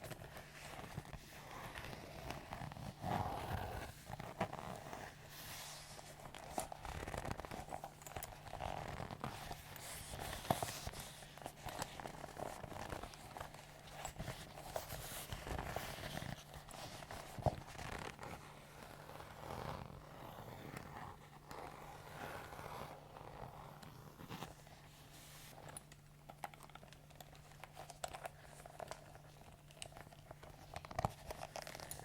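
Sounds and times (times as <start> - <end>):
faint steady hum: 0.0 - 32.0
leather creaking and rubbing: 0.0 - 32.0.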